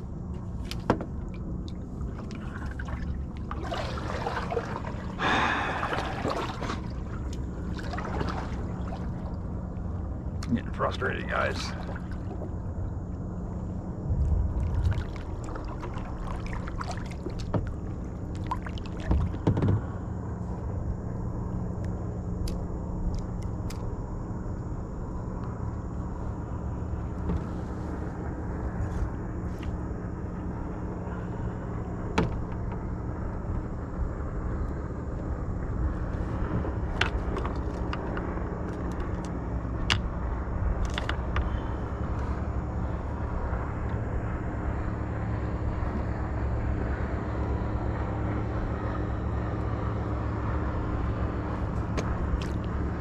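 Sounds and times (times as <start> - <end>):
low engine-like drone: 0.0 - 53.0.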